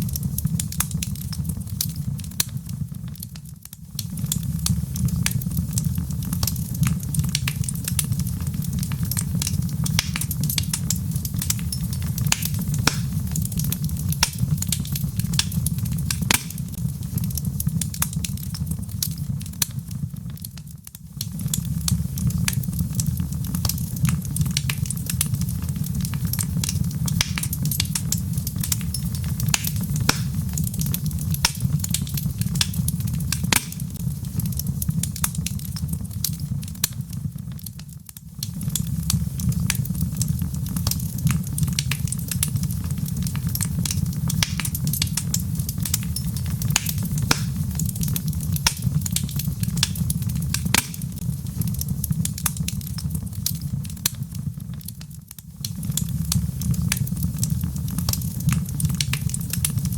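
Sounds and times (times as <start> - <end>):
log fire crackling and popping: 0.0 - 59.9
low fire rumble: 0.0 - 59.9.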